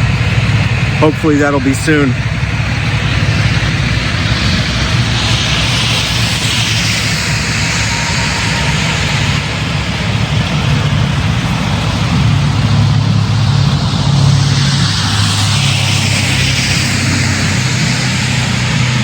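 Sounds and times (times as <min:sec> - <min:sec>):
diesel truck engines idling: 0:00.0 - 0:19.0
rushing hiss: 0:00.0 - 0:19.0.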